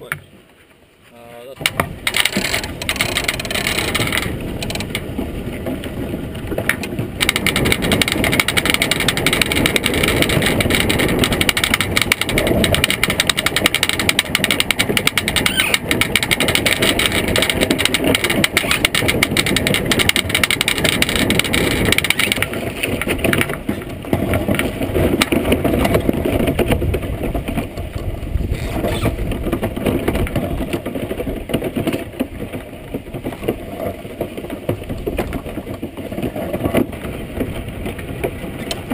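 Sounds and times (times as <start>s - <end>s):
iceboat runners rumbling on ice: 1.6s - 38.9s.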